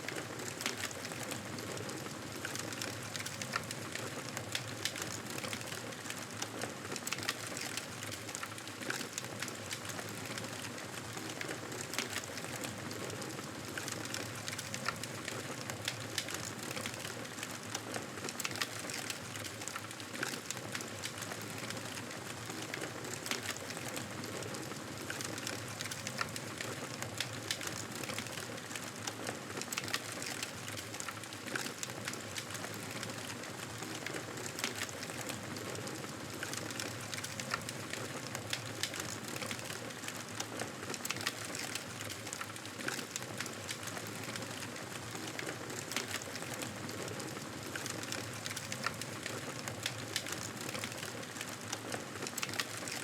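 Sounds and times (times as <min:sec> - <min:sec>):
wood fire crackling: 0:00.1 - 0:53.0.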